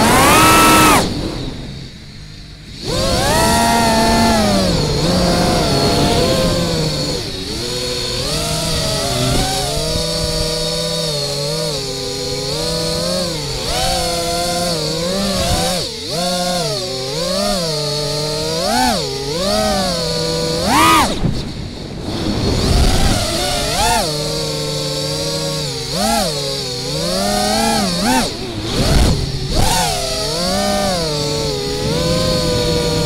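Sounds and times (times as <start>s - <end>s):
quadcopter motors whining: 0.0s - 33.0s.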